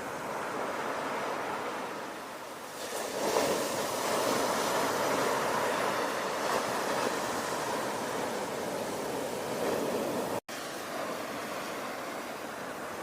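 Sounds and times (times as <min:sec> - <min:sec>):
ocean waves crashing on shore: 0:00.0 - 0:13.0.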